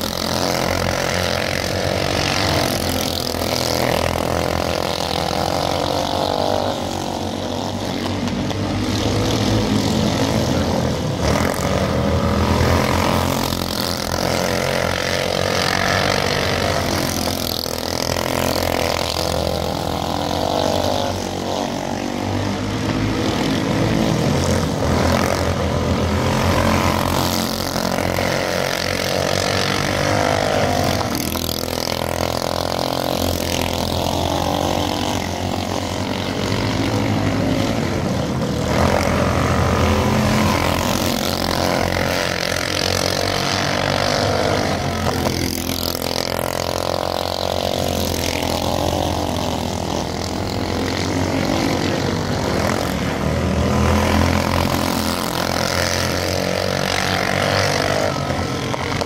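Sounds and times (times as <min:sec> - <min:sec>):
race kart engines revving: 0:00.0 - 0:59.0.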